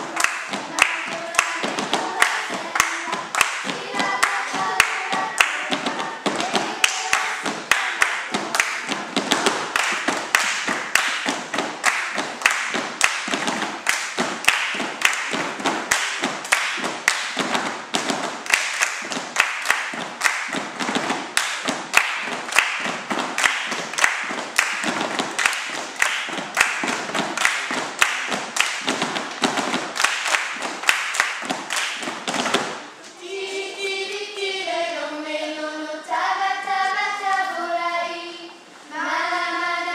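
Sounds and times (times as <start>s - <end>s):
children clapping and body slapping: 0.0s - 33.2s.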